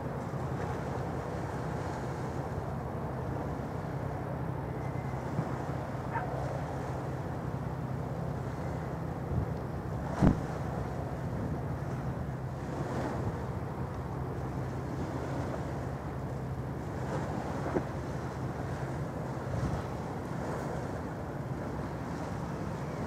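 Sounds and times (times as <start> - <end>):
low engine rumble: 0.0 - 23.0
outdoor background noise: 0.0 - 23.0.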